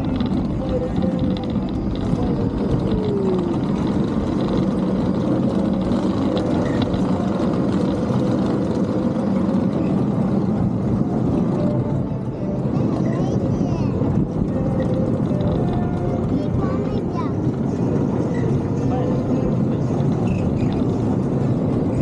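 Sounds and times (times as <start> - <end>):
kart engine running: 0.0 - 22.0.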